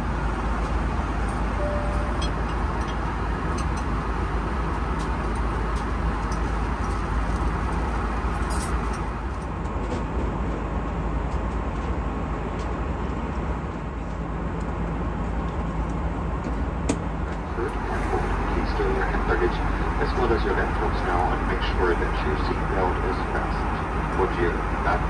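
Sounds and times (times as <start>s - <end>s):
aircraft cabin roar: 0.0s - 25.0s.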